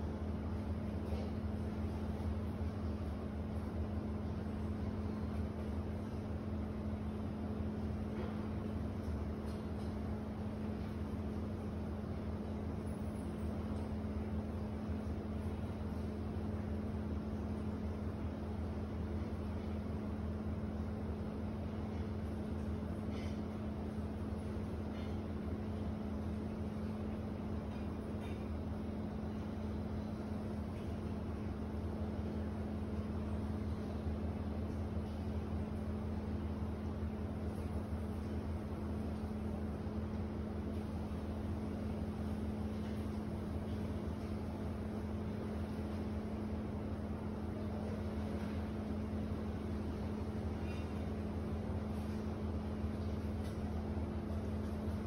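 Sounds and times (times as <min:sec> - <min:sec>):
low machine hum with pitched tone: 0:00.0 - 0:55.0
low mechanical drone: 0:00.0 - 0:55.0.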